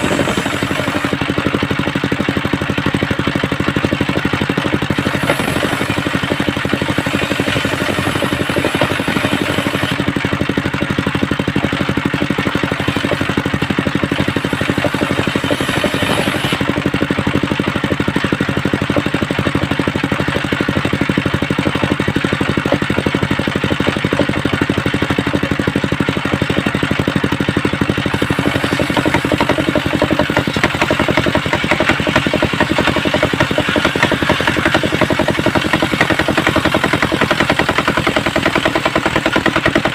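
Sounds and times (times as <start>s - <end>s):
circular saw engine running: 0.0s - 39.9s.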